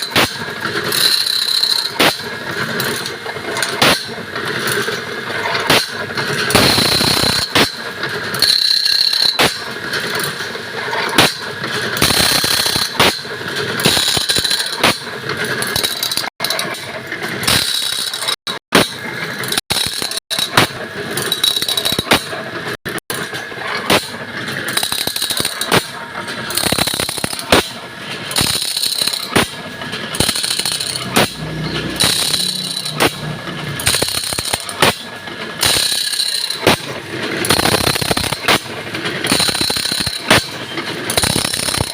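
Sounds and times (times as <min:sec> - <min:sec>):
grinding wheel squealing on saw teeth: 0:00.0 - 0:41.9.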